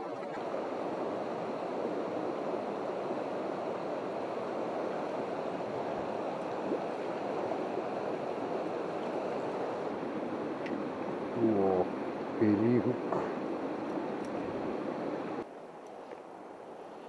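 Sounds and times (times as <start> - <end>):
stream rushing over rocks: 0.0 - 15.5.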